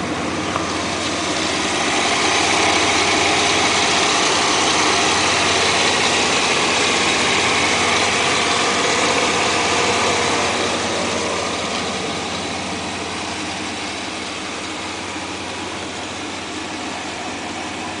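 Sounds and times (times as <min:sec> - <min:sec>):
pickup engine idling: 0:00.0 - 0:18.0.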